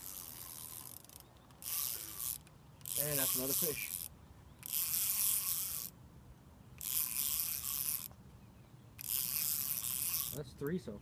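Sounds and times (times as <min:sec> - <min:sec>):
fishing reel gears whirring: 0:00.0 - 0:06.0, 0:06.8 - 0:08.2, 0:09.0 - 0:10.6.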